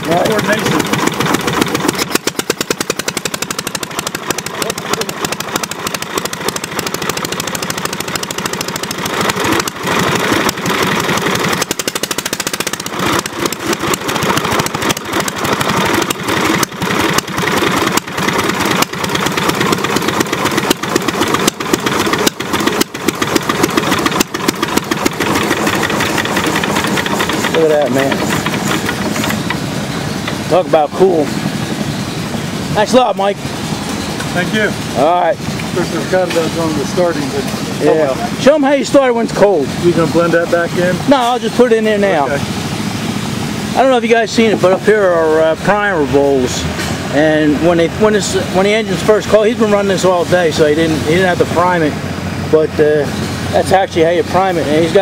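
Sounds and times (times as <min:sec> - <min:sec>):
engine running rapid firing beat: 0:00.0 - 0:55.0.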